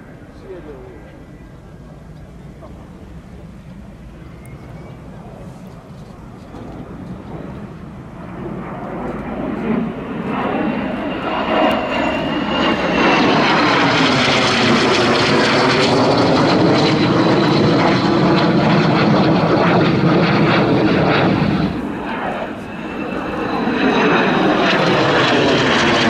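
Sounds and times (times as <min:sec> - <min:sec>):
jet engine roar with whine: 0:00.0 - 0:26.0.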